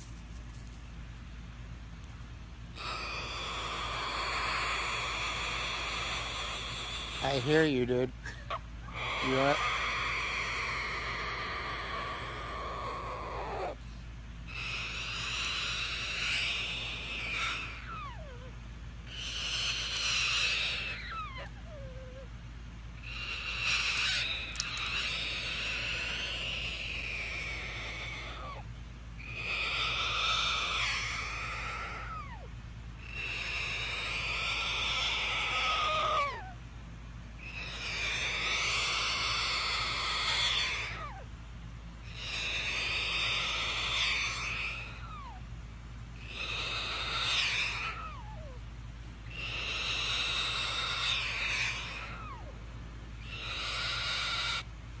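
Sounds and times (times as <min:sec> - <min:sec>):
cockatoo hissing: 0:02.7 - 0:36.6, 0:37.4 - 0:41.3, 0:42.0 - 0:52.6, 0:53.2 - 0:55.0.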